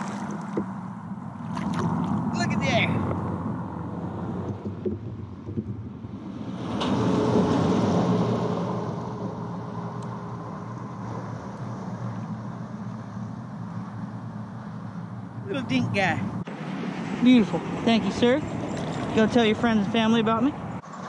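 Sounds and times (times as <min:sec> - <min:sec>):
highway traffic rumble: 0:00.0 - 0:21.0
vehicle passing: 0:00.0 - 0:21.0.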